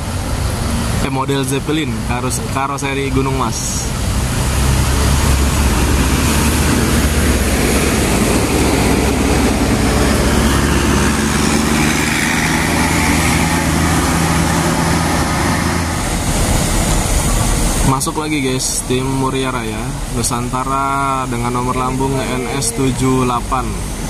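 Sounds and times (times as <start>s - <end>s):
bus diesel engine passing: 0.0s - 24.0s.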